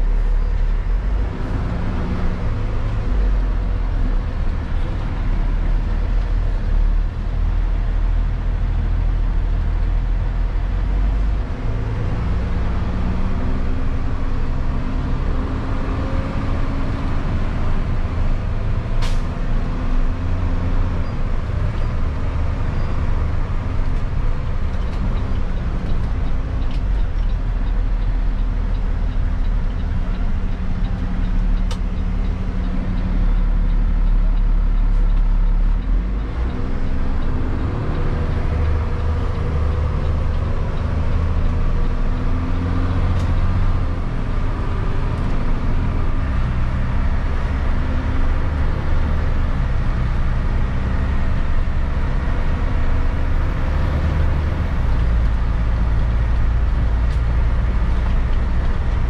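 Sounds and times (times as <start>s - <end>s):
diesel truck engine under load: 0.0s - 59.0s
road noise: 0.0s - 59.0s.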